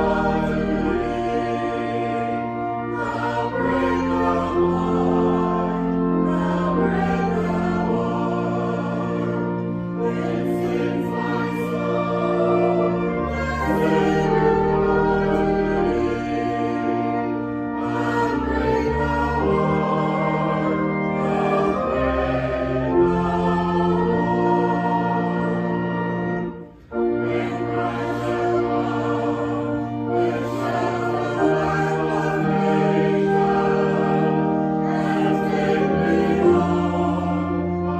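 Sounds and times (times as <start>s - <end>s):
choir singing sacred music: 0.0s - 37.9s.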